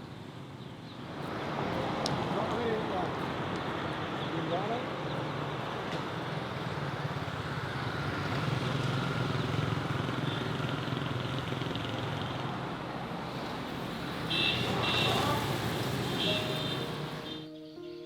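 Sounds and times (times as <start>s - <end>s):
road or wind noise: 0.0s - 17.5s.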